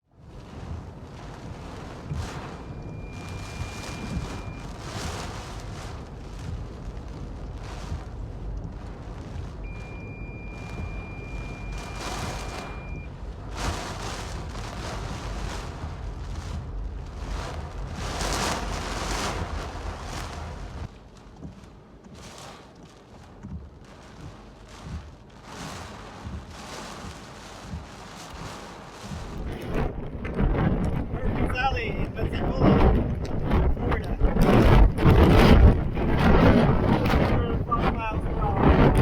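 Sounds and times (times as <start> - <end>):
hurricane winds gusting: 0.0 - 39.0
wind rumble on microphone: 0.0 - 39.0.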